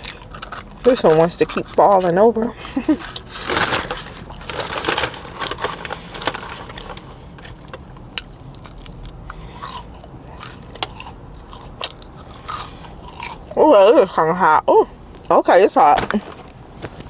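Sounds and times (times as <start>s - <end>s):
person chewing crunchy fries: 0.0s - 14.0s.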